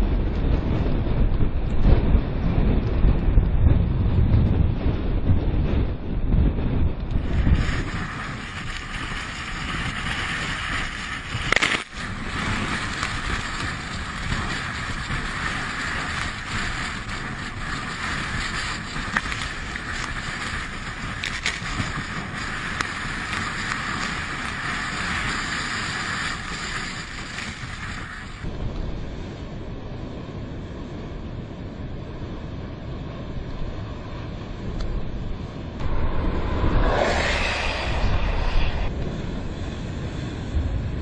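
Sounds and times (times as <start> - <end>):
wind on microphone: 0.0 - 41.0.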